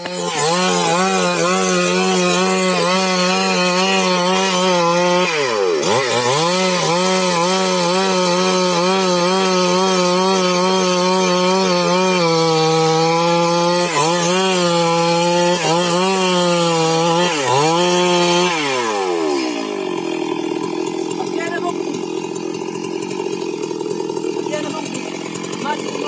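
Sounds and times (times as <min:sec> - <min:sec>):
chainsaw cutting log: 0:00.0 - 0:26.0.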